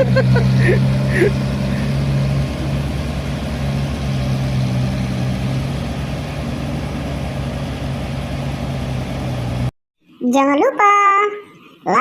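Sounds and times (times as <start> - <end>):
diesel truck engine running: 0.0 - 9.7.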